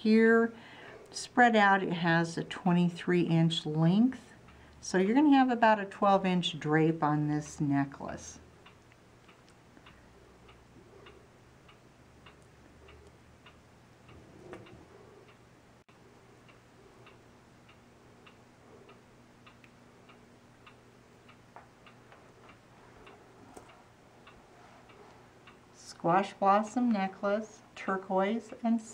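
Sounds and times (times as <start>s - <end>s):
room hum: 0.0s - 28.9s
clock ticking: 1.1s - 15.4s, 16.4s - 27.2s, 27.8s - 28.9s.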